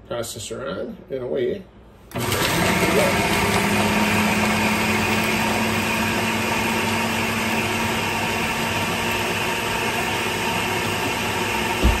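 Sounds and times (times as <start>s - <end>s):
food processor whirring: 2.1s - 12.0s.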